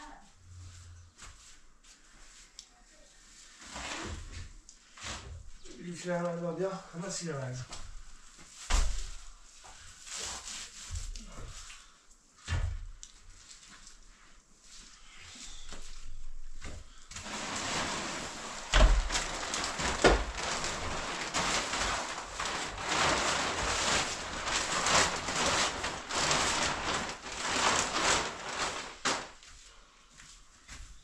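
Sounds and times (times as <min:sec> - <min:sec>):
plastic sheet rustling: 0:00.0 - 0:12.0, 0:12.8 - 0:29.9.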